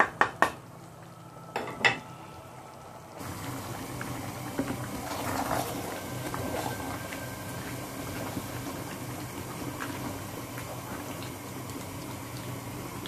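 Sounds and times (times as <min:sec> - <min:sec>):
soup bubbling at the boil: 0:00.2 - 0:13.0.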